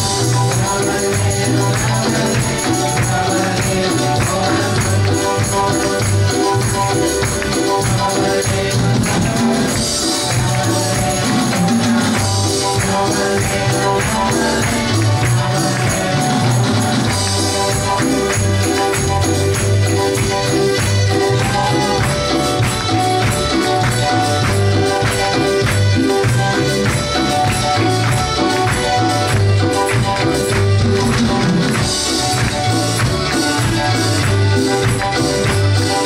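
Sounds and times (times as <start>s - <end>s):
tambourine jingling: 0.0s - 30.8s
church worship band playing: 0.0s - 36.0s
electric bass guitar: 0.0s - 36.0s.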